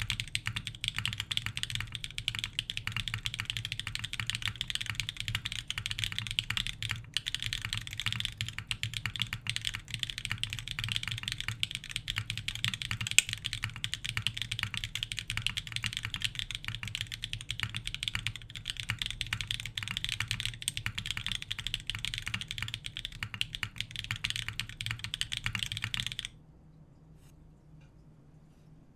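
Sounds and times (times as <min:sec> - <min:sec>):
fast typing on mechanical keyboard: 0:00.0 - 0:26.3.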